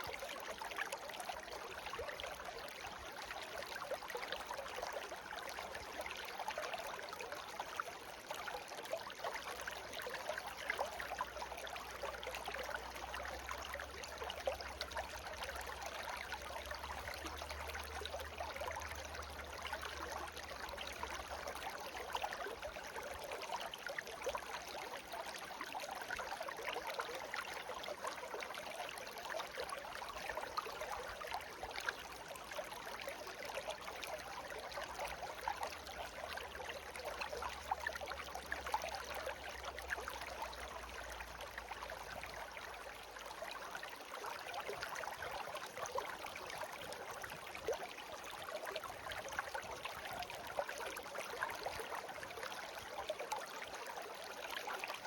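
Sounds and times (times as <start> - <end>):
stream babbling: 0.6 - 55.0.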